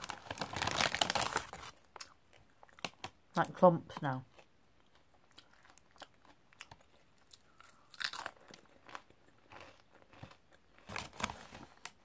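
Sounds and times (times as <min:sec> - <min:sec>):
mouth crunching crisps: 0:00.0 - 0:03.2, 0:04.3 - 0:11.9.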